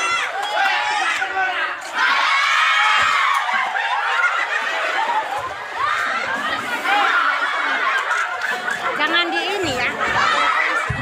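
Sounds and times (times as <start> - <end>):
crowd laughing and calling out: 0.0 - 11.0.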